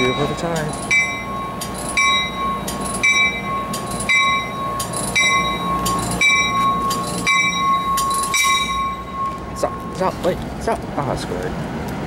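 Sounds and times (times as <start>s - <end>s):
high-pitched whine: 0.0s - 10.4s
train bell ringing: 0.0s - 10.4s.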